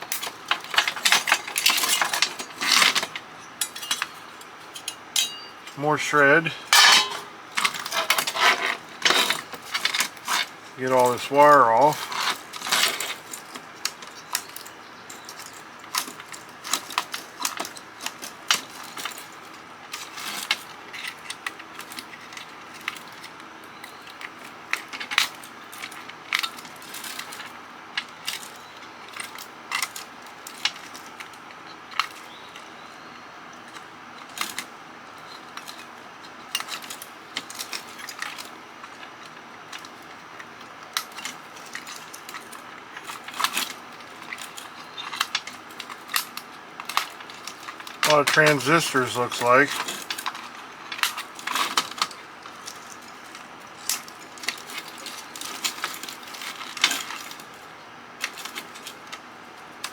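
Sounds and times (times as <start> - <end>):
clicks snaps and metallic clatter: 0.0 - 5.8, 6.7 - 32.7, 33.5 - 59.9.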